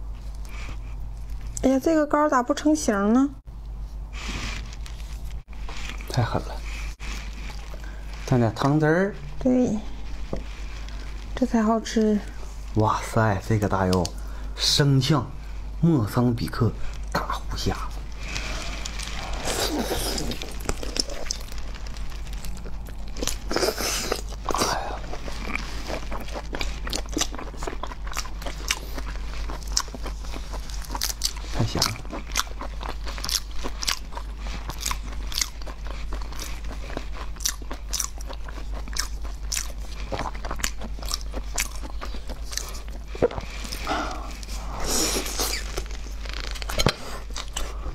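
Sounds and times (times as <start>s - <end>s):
wet eating and chewing: 3.7s - 47.9s.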